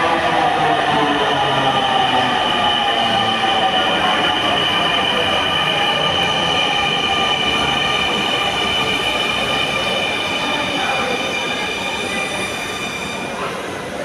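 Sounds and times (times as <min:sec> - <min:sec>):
train whine and rumble: 0:00.0 - 0:14.0.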